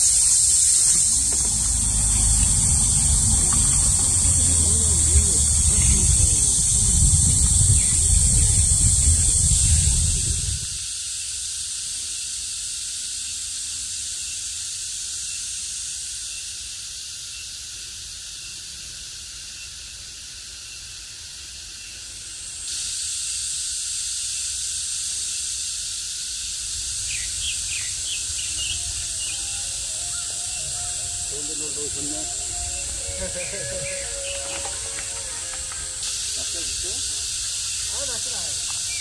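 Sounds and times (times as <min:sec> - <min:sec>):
insects chorus: 0:00.0 - 0:39.0.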